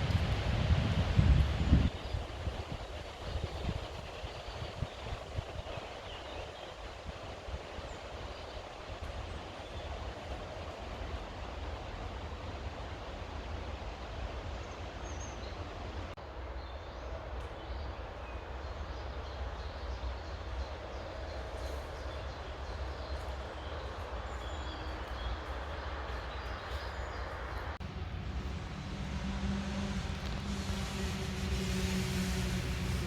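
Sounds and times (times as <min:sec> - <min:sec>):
low rumble and hiss: 0:00.0 - 0:33.0.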